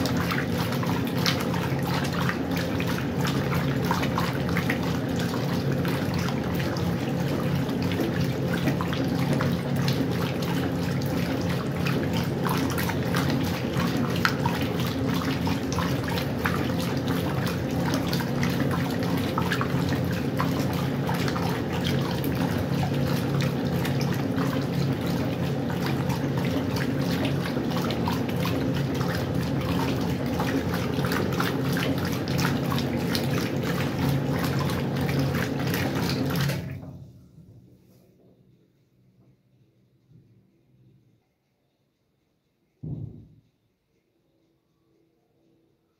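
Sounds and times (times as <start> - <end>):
water splashing in drum: 0.0 - 37.0
washing machine motor hum: 0.0 - 45.9.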